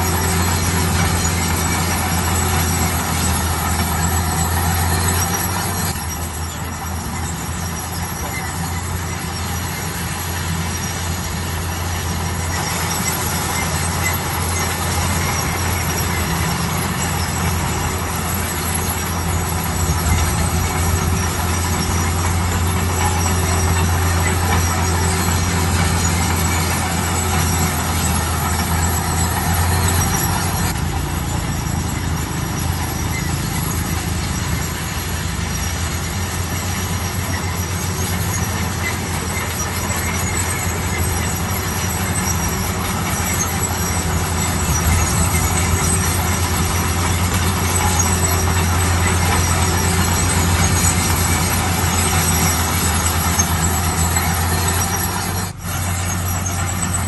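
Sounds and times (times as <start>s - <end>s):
bulldozer engine droning: 0.0s - 57.0s
high-pitched running gear tones: 0.0s - 57.0s.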